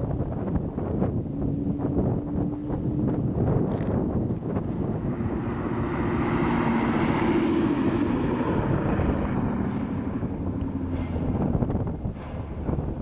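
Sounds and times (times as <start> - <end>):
wind buffeting microphone: 0.0 - 13.0
car exhaust driving past: 0.9 - 12.8.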